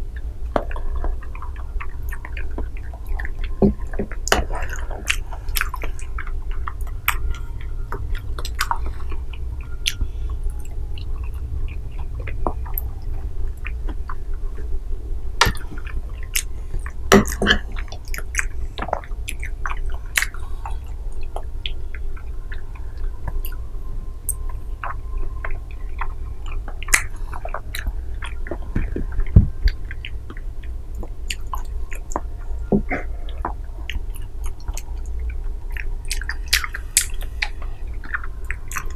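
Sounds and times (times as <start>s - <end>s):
chewing and wet mouth sounds: 0.0s - 38.9s
steady low hum: 0.0s - 38.9s
mouth clicks and smacks: 0.1s - 14.7s, 15.3s - 23.6s, 24.3s - 38.9s.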